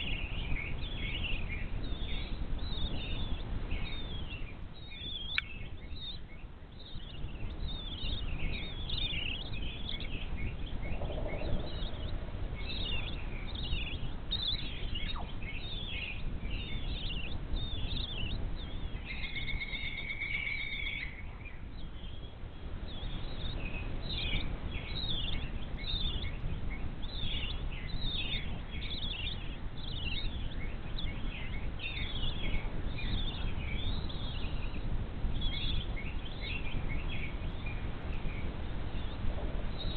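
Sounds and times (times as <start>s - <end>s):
bird trill: 0.0s - 34.8s
birds chirping: 0.0s - 39.9s
constant low rumble: 0.0s - 39.9s.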